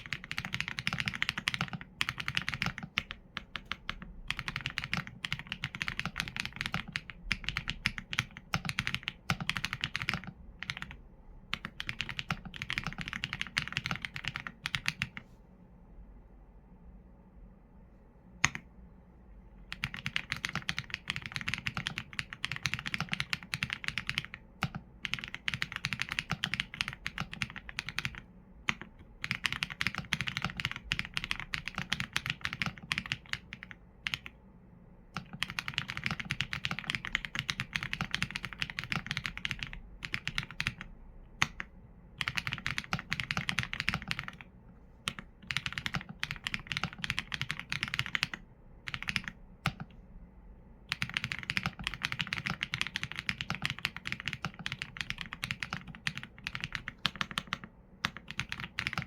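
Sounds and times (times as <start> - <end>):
mechanical keyboard typing: 0.0 - 15.2, 19.7 - 34.4, 35.2 - 50.0, 50.9 - 59.0.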